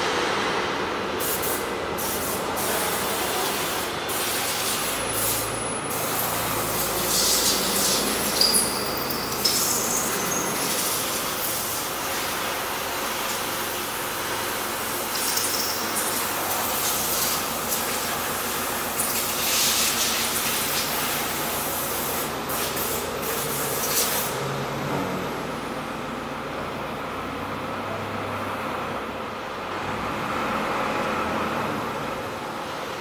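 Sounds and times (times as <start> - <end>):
factory machinery hum: 0.0 - 33.0.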